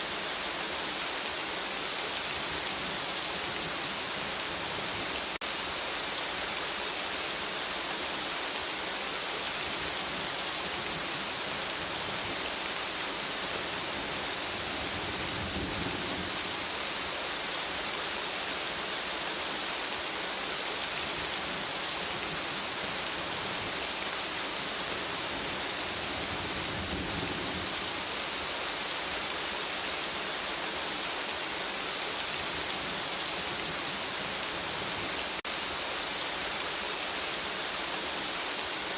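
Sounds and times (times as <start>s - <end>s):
rain on leaves: 0.0s - 38.9s.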